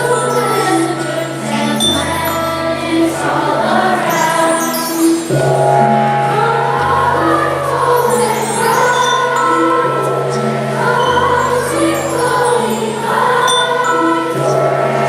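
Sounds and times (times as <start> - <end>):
choir singing sustained notes: 0.0 - 15.0
instrumental accompaniment: 0.0 - 15.0.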